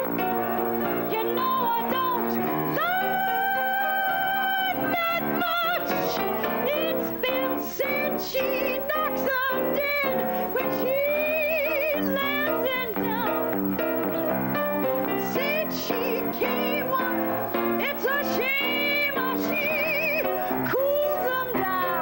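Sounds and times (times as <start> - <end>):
woman singing: 0.0 - 22.0.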